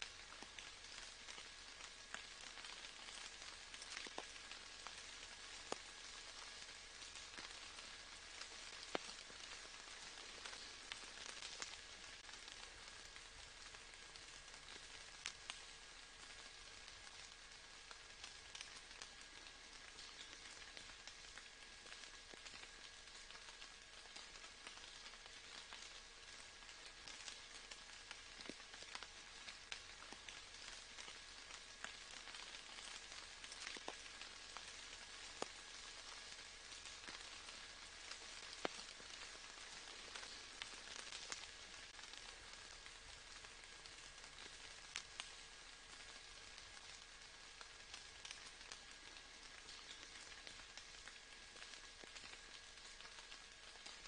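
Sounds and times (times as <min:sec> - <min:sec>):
faint steady rain: 0:00.0 - 0:54.0.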